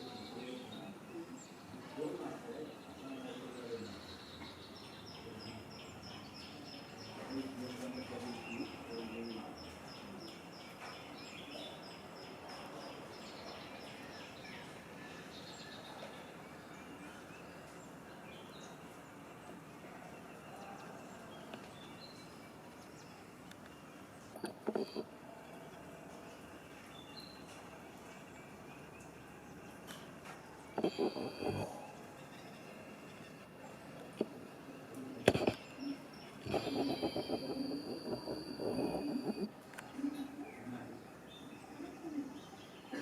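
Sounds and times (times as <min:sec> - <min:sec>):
outdoor ambience: 0:00.0 - 0:43.0.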